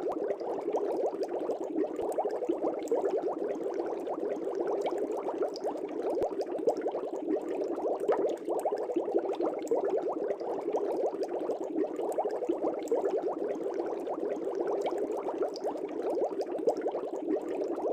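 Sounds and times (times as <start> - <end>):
aquarium air bubbles: 0.0 - 17.9.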